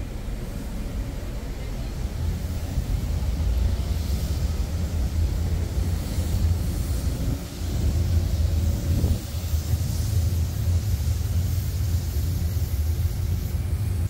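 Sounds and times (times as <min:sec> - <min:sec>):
city street rumble: 0:00.0 - 0:14.0.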